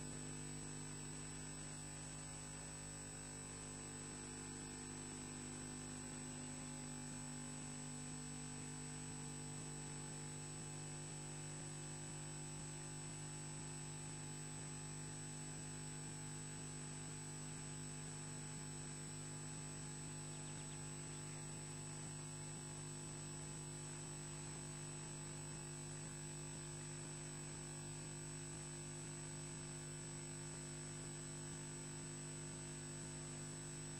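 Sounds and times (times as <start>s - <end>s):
electrical hum with high whine: 0.0s - 33.9s.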